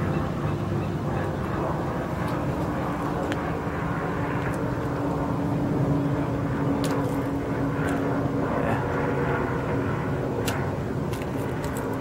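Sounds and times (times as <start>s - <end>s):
engine drone: 0.0s - 12.0s
outdoor background noise: 0.0s - 12.0s
steady hum: 0.0s - 12.0s.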